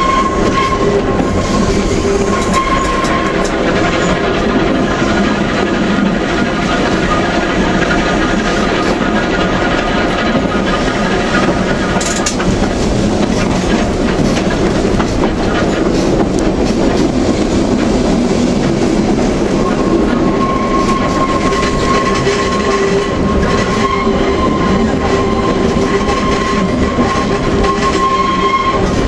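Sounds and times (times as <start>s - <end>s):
wheel flanges screeching: 0.0s - 16.2s, 19.4s - 29.0s
tram wheels rolling on rails: 0.0s - 29.0s.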